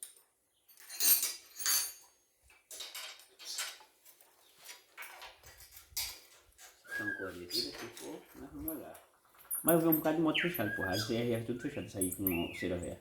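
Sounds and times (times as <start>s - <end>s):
metal tools clinking: 0.0s - 6.8s, 7.6s - 11.1s, 11.9s - 12.7s.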